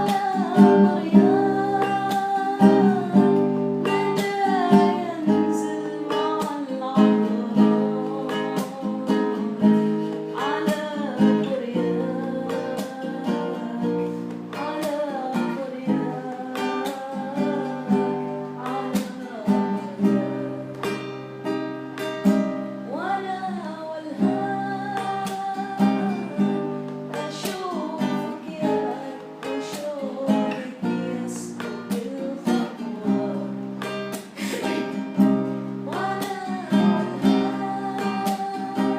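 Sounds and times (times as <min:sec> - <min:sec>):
person singing: 0:00.0 - 0:21.0, 0:22.8 - 0:38.9
strummed acoustic guitar: 0:00.0 - 0:38.9.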